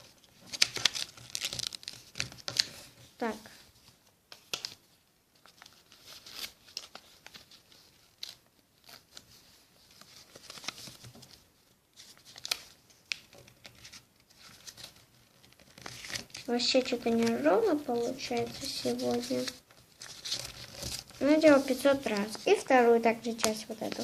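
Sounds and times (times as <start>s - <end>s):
paper being folded and creased: 0.0s - 24.0s.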